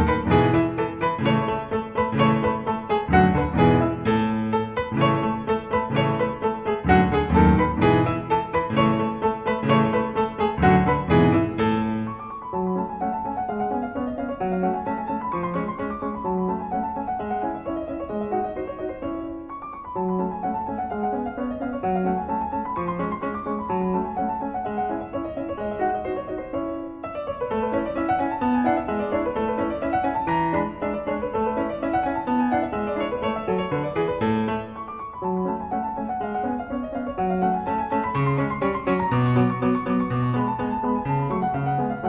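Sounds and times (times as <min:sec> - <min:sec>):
solo piano music: 0:00.0 - 0:42.0.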